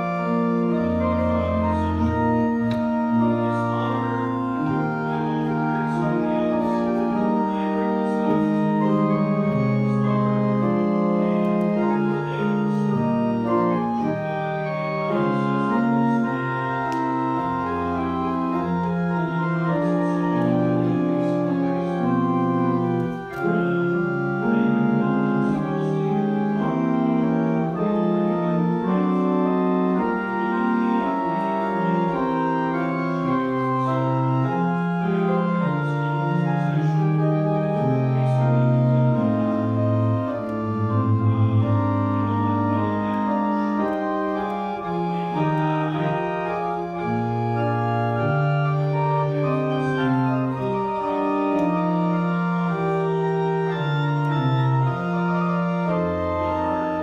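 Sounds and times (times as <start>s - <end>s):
pipe organ playing: 0.0s - 57.0s.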